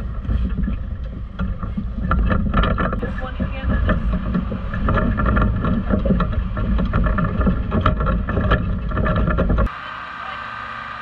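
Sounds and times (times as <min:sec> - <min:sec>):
wind buffeting the microphone: 0:00.0 - 0:09.7.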